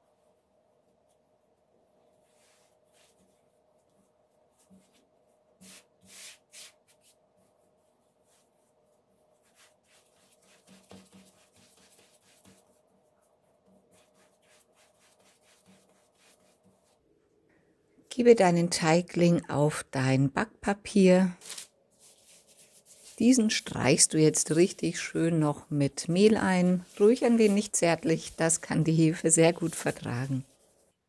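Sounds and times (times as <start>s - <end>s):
hands rubbing bread dough: 0.0s - 17.0s, 22.0s - 31.0s.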